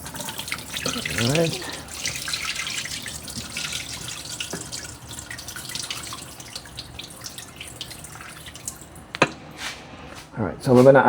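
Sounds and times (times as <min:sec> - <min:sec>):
water trickling and dripping: 0:00.0 - 0:09.7.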